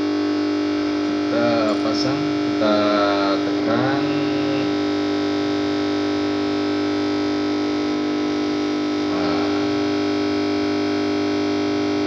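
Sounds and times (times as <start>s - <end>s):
electrical buzzing hum: 0.0s - 12.0s.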